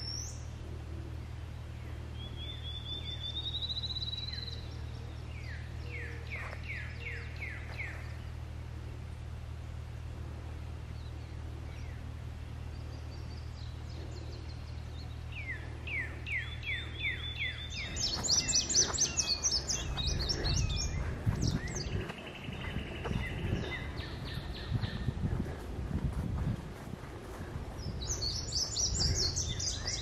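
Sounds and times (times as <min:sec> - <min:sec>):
low rumbling noise: 0:00.0 - 0:30.0
songbirds singing: 0:00.0 - 0:30.0
steady low hum: 0:00.0 - 0:30.0.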